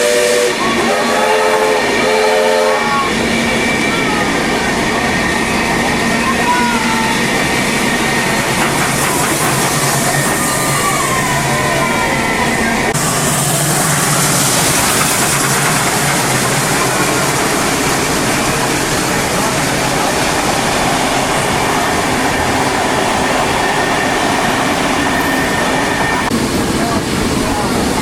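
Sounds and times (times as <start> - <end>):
steam train running: 0.0 - 28.0.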